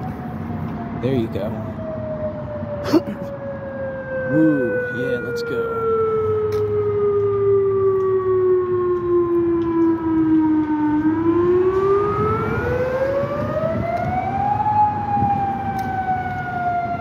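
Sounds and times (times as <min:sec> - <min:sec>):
warning siren wailing: 0:00.0 - 0:17.0.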